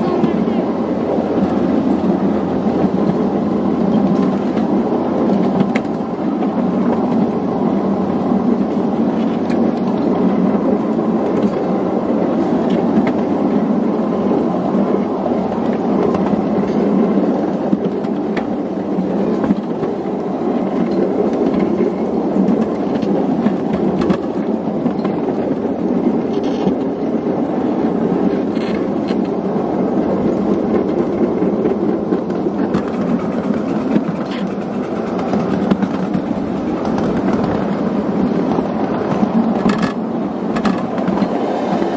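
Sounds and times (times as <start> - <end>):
train wheels rumbling on track: 0.0 - 41.9
wheels clicking over rail joints: 0.0 - 41.9.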